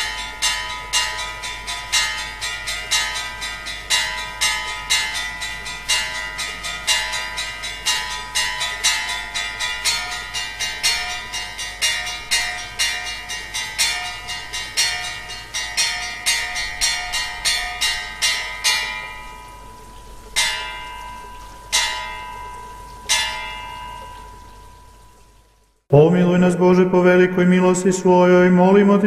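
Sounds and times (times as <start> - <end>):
church bells pealing: 0.0 - 25.0.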